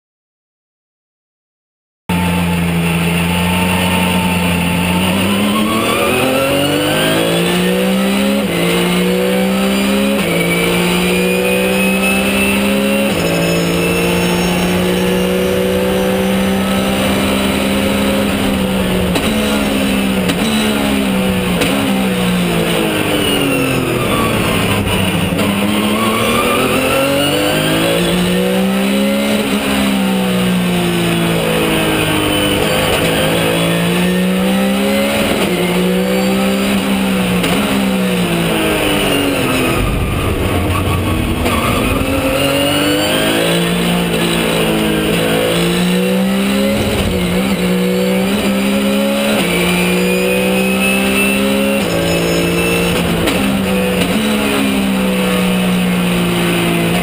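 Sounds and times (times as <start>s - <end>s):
race car engine shifting gears: 2.8s - 57.0s.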